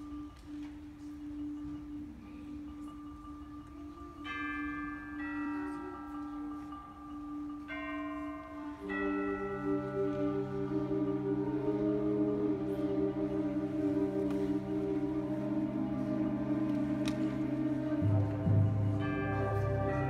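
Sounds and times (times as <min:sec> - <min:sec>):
chimes and mallet percussion: 0:00.0 - 0:20.0
wind instruments low chords: 0:00.0 - 0:20.0.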